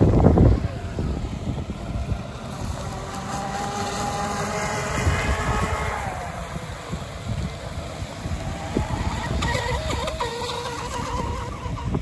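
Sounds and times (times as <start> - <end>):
rc boat motor whine: 0.0 - 12.0.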